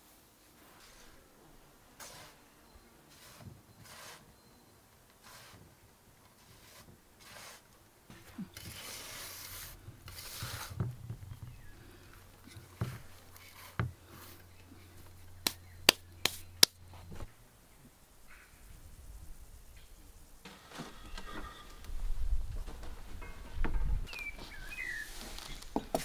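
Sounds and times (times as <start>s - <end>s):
rustle: 0.0s - 26.0s.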